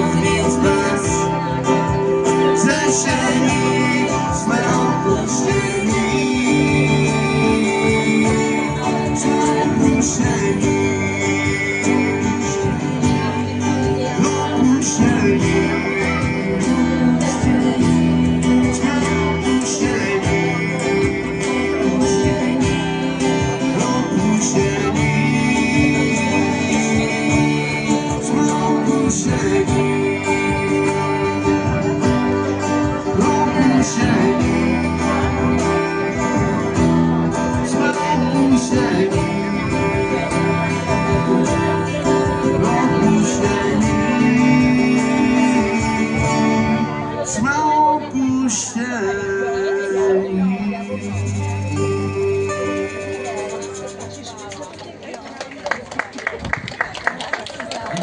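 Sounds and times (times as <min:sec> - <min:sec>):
steady drum beat: 0:00.0 - 0:46.9
electric guitar: 0:00.0 - 0:58.0
live band playing: 0:00.0 - 0:58.0.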